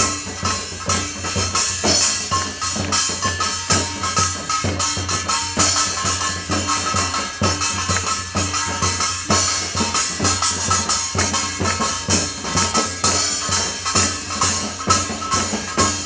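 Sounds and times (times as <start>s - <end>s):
tambourine jingling: 0.0s - 16.0s.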